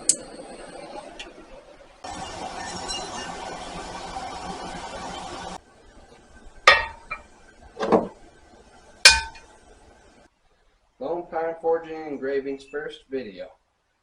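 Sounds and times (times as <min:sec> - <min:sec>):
steady noisy sound: 0:00.0 - 0:12.2.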